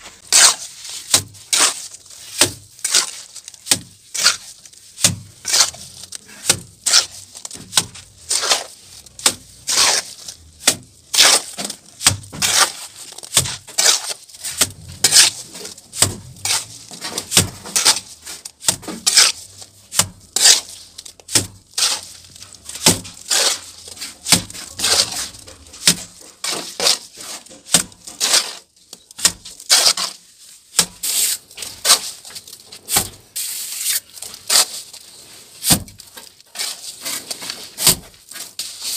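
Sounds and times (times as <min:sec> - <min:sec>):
trowel scraping wet mortar: 0:00.1 - 0:38.9.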